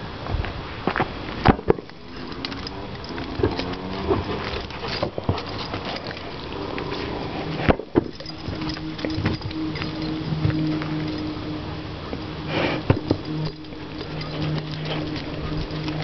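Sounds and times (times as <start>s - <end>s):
paws scuffling on dirt: 0.9s - 16.0s.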